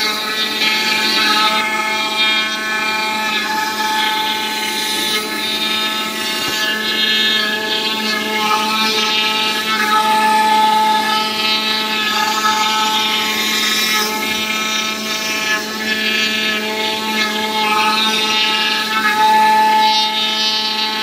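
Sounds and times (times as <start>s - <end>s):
cutting machine buzzing: 0.0s - 21.0s.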